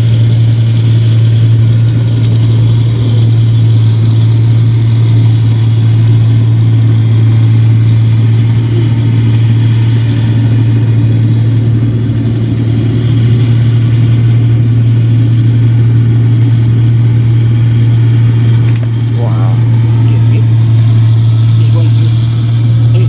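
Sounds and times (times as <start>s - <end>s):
combine harvester diesel engine drone: 0.0s - 23.0s.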